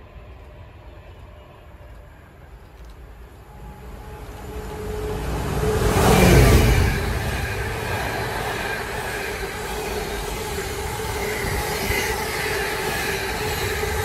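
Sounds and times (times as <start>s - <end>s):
diesel locomotive passing: 0.0s - 14.0s
freight wagons rumbling on rails: 2.0s - 14.0s.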